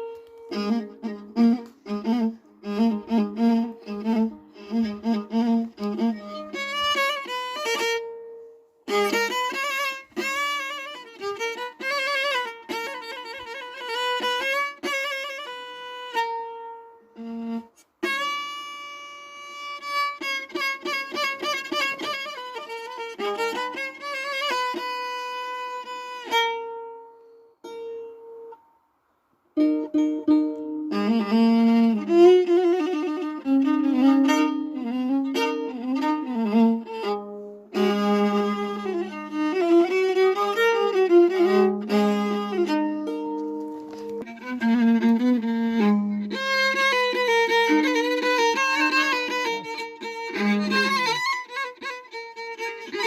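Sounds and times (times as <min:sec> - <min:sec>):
string melody of held notes: 0:00.0 - 0:53.0.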